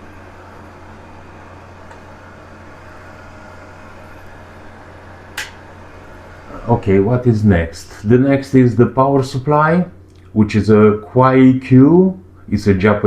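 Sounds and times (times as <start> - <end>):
low electrical hum: 0.0 - 13.0
room background hiss: 0.0 - 13.0.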